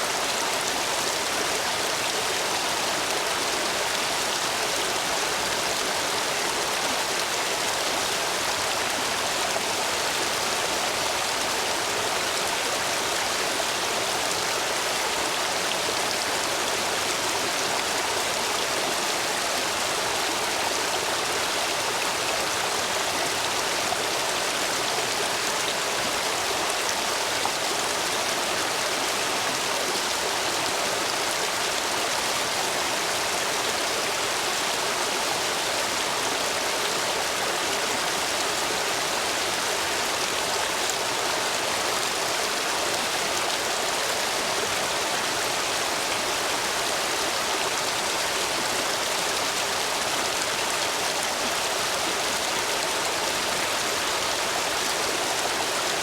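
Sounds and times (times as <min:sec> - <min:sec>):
stream water rushing over stones: 0:00.0 - 0:56.0.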